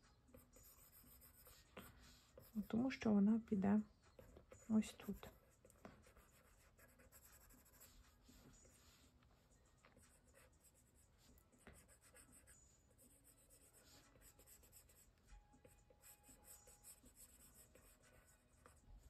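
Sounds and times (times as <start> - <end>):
stylus scratching on glass screen: 0.3 - 19.0.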